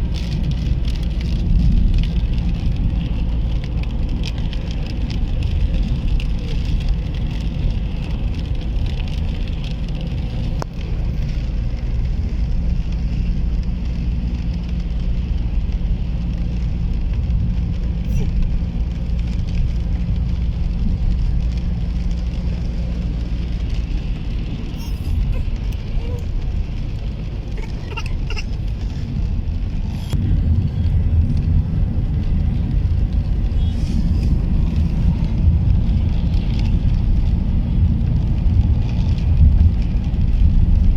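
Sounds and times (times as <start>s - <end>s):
car engine and road rumble: 0.0s - 40.9s
tyres hissing on wet road: 0.0s - 40.9s.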